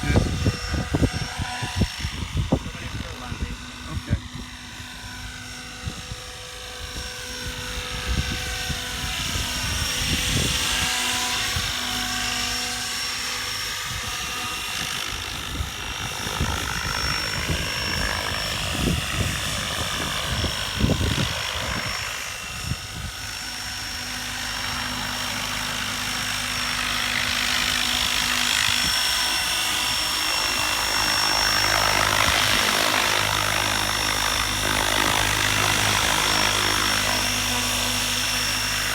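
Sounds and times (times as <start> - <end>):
wind buffeting microphone: 0.0 - 12.5, 13.4 - 38.9
helicopter rotor whine: 0.0 - 38.9.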